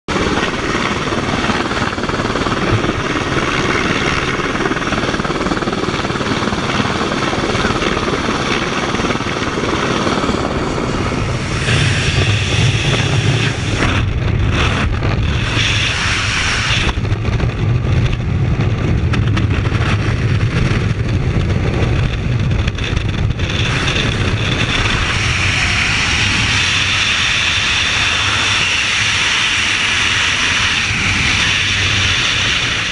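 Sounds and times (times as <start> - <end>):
freefall wind roar on microphone: 0.1 - 32.9
helicopter noise: 0.1 - 32.9.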